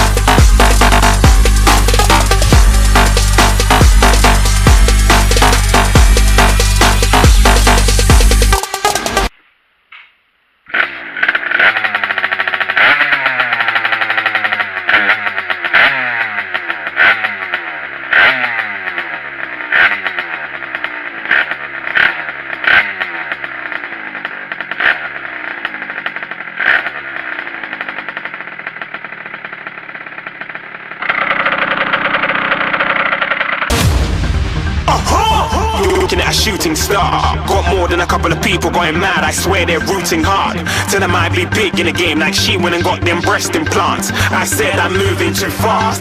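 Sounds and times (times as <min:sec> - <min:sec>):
motorcycle engine revving: 0:00.0 - 0:09.3, 0:10.6 - 0:46.0
sharp exhaust cracks: 0:00.0 - 0:46.0.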